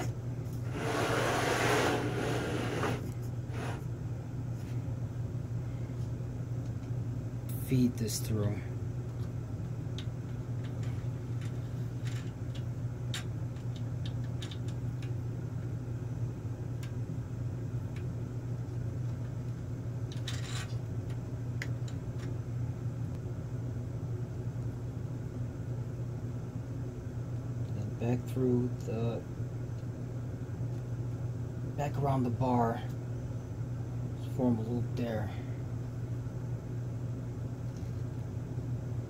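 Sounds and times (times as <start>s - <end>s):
low background hum: 0.0s - 39.0s.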